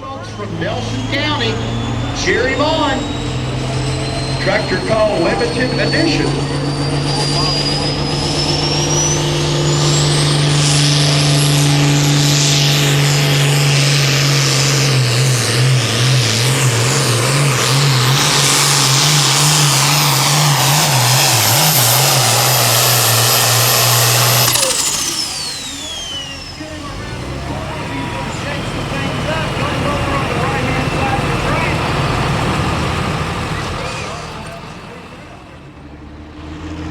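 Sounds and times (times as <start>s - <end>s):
diesel tractor engine at full throttle: 0.0s - 36.9s
high turbo whine: 0.0s - 36.9s.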